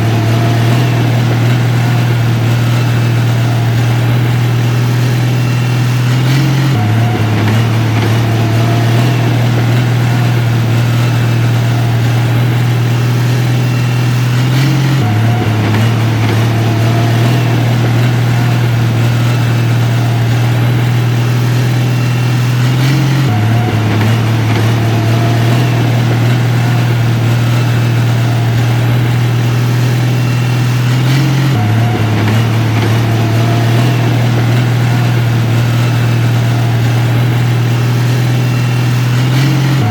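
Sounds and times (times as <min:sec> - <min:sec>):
heavy diesel engine humming: 0:00.0 - 0:39.9.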